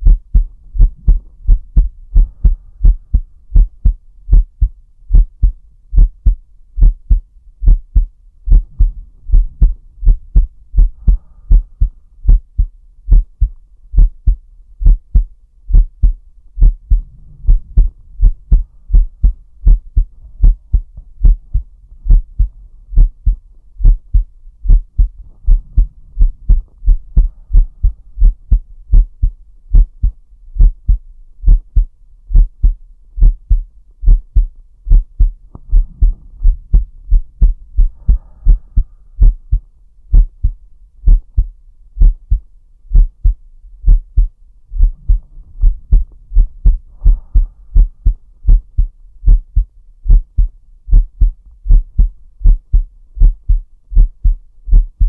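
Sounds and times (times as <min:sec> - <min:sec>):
heartbeat: 0:00.0 - 0:55.0.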